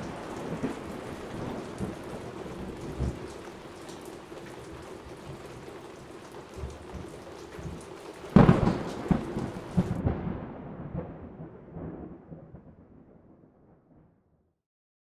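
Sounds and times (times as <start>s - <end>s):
steady rain: 0.0s - 12.6s
thunderclap rumbling: 0.0s - 13.7s.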